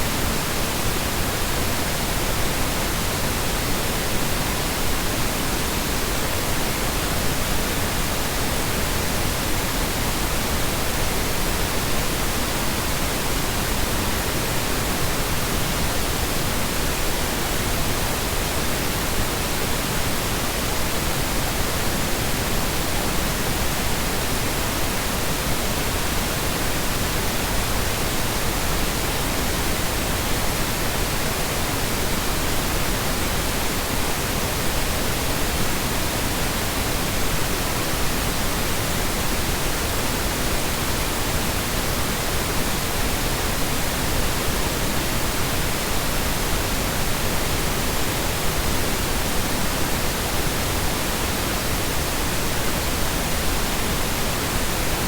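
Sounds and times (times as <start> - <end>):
continuous synthetic noise hiss: 0.0 - 55.0.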